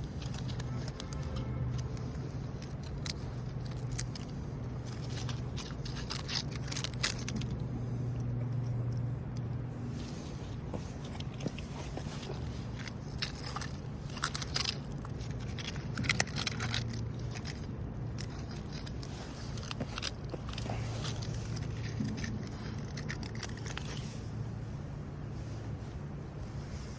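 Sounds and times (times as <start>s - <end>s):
dog chewing a dry leaf: 0.0s - 24.5s
steady low hum: 0.0s - 26.9s.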